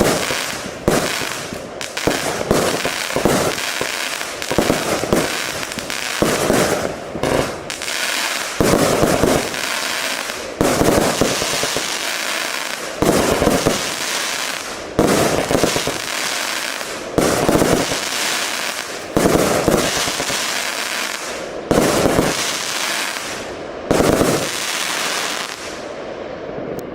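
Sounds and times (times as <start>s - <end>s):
fireworks bangs: 0.0s - 26.0s
fireworks crackling: 0.0s - 26.9s.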